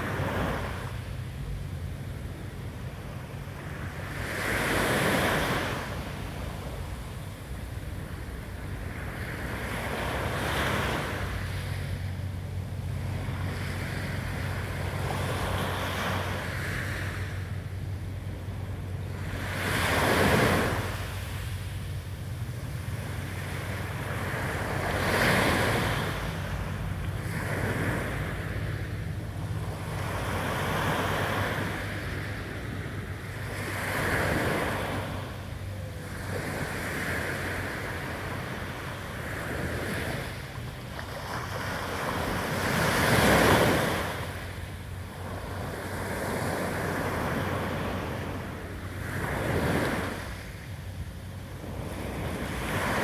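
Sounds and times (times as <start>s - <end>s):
waves washing up a beach: 0.0s - 53.0s.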